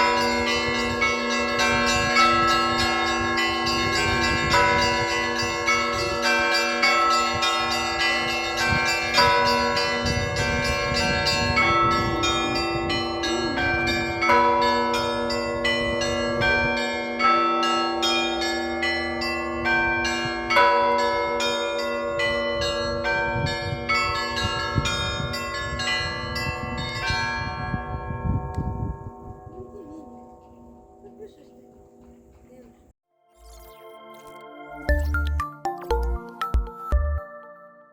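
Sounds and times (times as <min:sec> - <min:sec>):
heavy church bell stroke: 0:00.0 - 0:31.1
small church bells chiming rapidly: 0:00.0 - 0:31.4.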